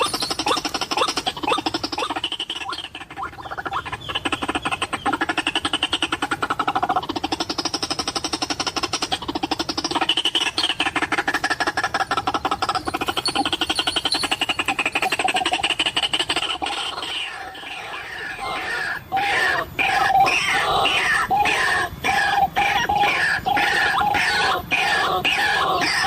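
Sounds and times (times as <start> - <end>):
bird pulsing chatter call: 0.0 - 26.0.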